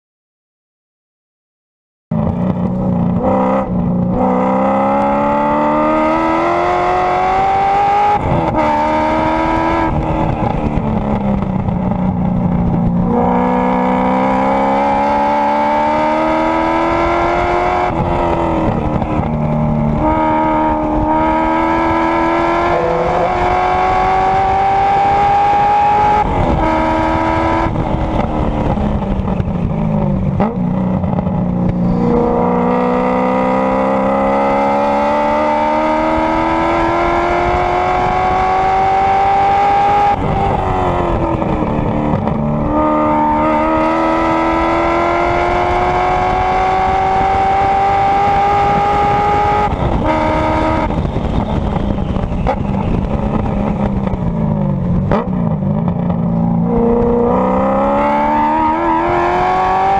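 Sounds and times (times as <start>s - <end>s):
racing car engine revving: 2.2s - 29.4s, 30.3s - 54.2s, 55.0s - 59.9s.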